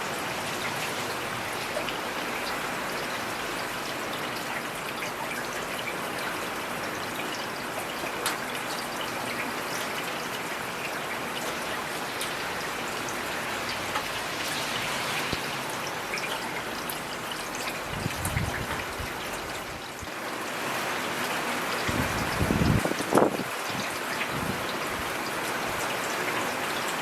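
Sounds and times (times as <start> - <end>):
heavy rain on hard surfaces: 0.0 - 27.0.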